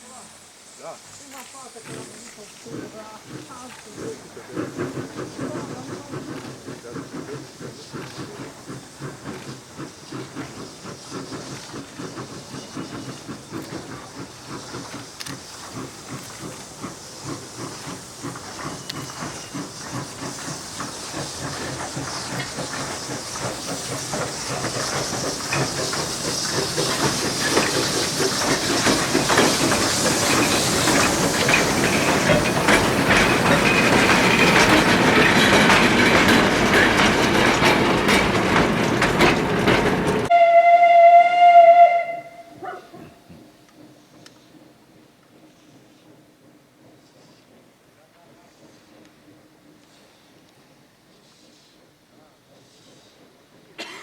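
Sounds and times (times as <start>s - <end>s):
steam hiss: 0.0s - 54.0s
steam locomotive exhaust beats: 0.0s - 54.0s.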